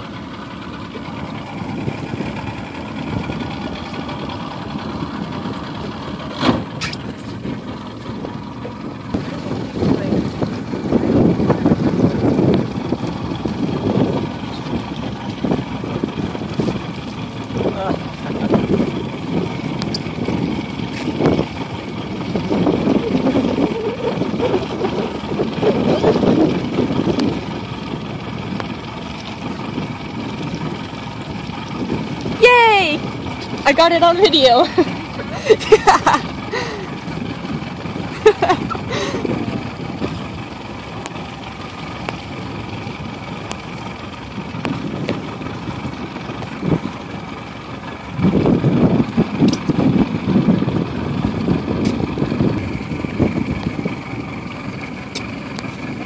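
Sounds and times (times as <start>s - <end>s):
boat rumbling on choppy water: 0.0s - 56.0s.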